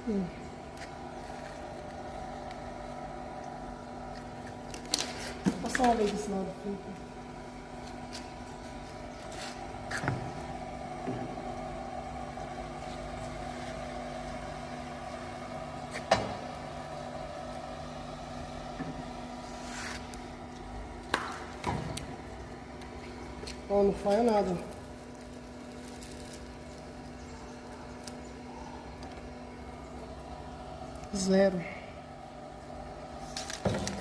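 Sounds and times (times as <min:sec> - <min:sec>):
edge banding machine humming: 0:00.0 - 0:34.0.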